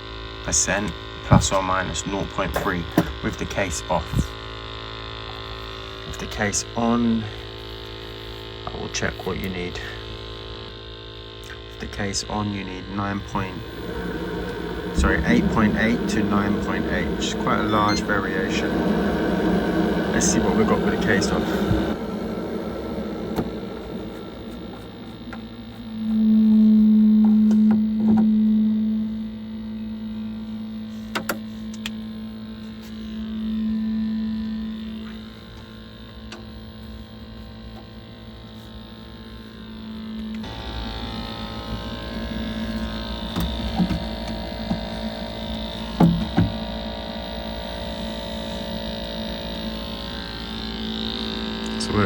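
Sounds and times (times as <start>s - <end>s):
gas boiler humming: 0.0s - 52.0s.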